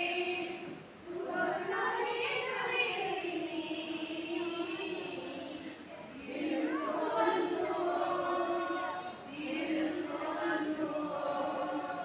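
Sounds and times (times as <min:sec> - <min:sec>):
women's choir singing: 0:00.0 - 0:12.0.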